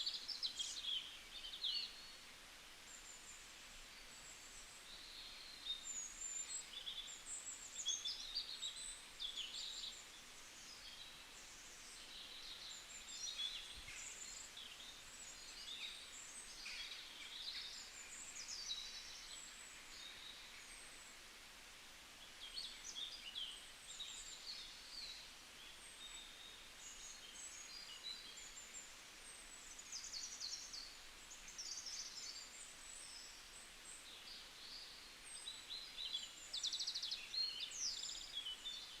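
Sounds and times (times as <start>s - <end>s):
faint background hiss: 0.0s - 39.0s.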